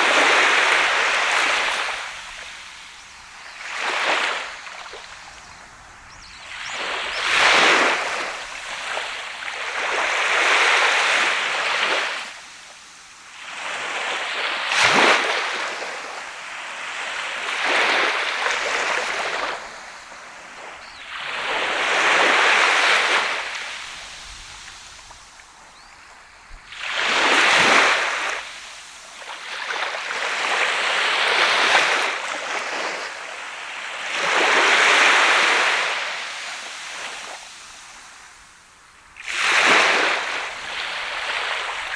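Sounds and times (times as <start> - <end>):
waves breaking on sandy beach: 0.0 - 41.9.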